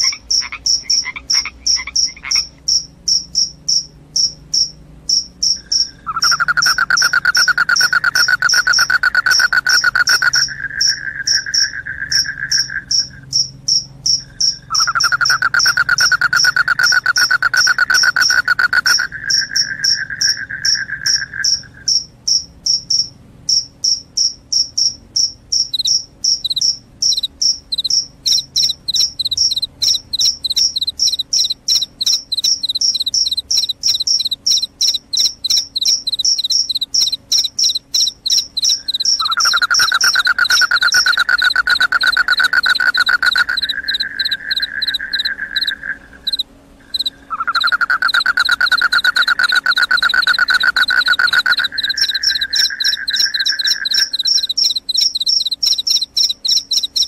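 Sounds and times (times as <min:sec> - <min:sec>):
crickets chirping: 0:00.0 - 0:57.0
low loud continuous trill: 0:00.0 - 0:57.0.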